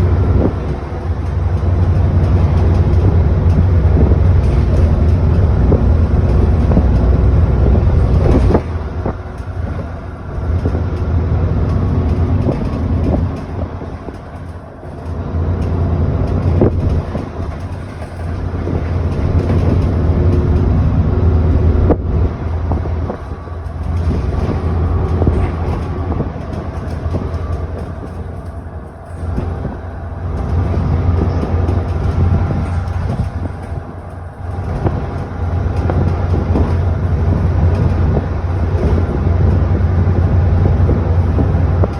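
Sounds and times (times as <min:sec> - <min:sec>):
bus body knocks and rattles: 0:00.0 - 0:41.9
bus diesel engine droning: 0:00.0 - 0:41.9.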